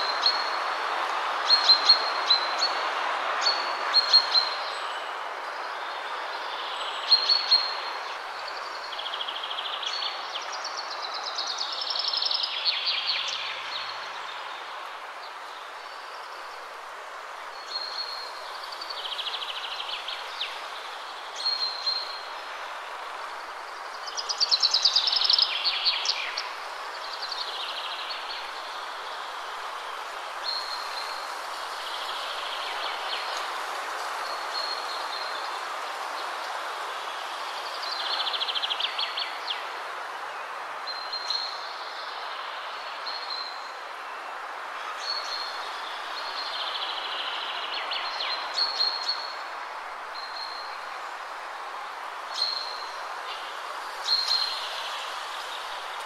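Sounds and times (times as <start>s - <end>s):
background hiss: 0.0s - 56.0s.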